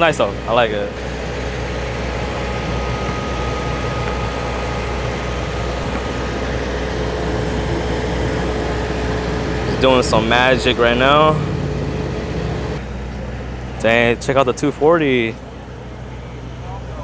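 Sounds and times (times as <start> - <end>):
outdoor noise: 0.0 - 17.0
steady engine drone: 0.0 - 17.0.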